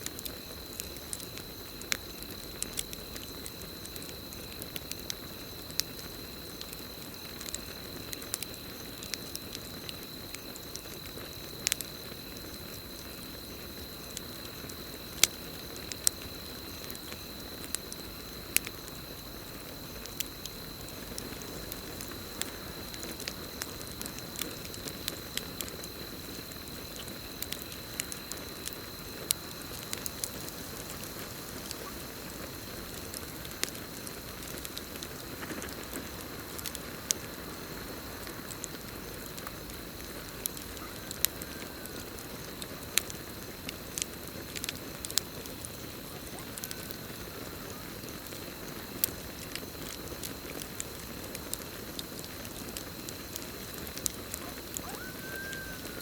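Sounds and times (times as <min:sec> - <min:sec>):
campfire crackling and popping: 0:00.0 - 0:56.0
crickets trilling: 0:00.0 - 0:56.0
fire hiss: 0:00.0 - 0:56.0.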